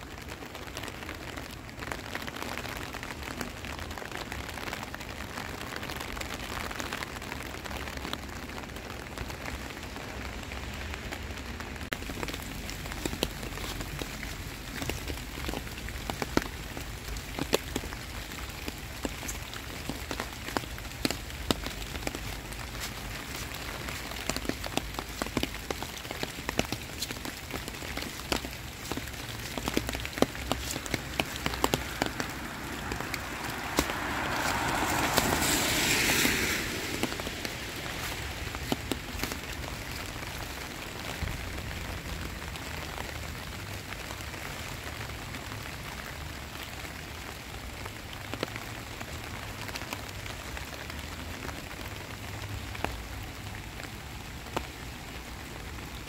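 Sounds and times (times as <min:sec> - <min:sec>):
heavy rain falling: 0:00.0 - 0:56.0
raindrops tapping close by: 0:00.0 - 0:56.0.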